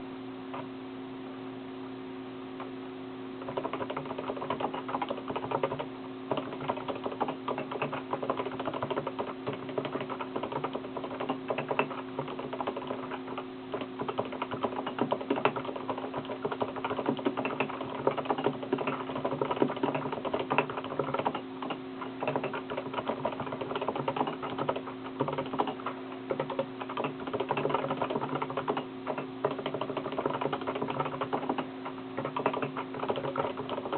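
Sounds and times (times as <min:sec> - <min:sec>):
steady hum: 0:00.0 - 0:33.9
rapid irregular clicking: 0:03.4 - 0:33.9.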